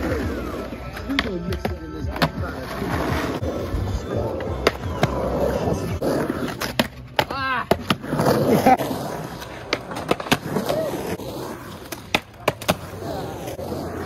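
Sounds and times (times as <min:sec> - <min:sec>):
skateboard clacks: 0:00.0 - 0:03.4, 0:04.2 - 0:14.0
skateboard wheels rolling on asphalt: 0:00.0 - 0:14.0.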